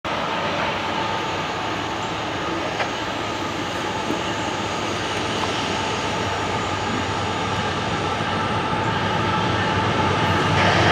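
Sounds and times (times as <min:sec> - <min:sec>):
freight train rumble: 0:00.1 - 0:10.9.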